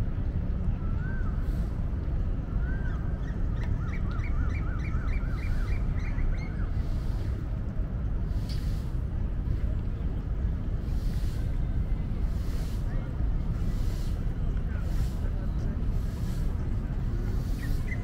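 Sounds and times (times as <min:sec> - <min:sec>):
distant city traffic: 0:00.0 - 0:18.0
wind on microphone: 0:00.0 - 0:18.0.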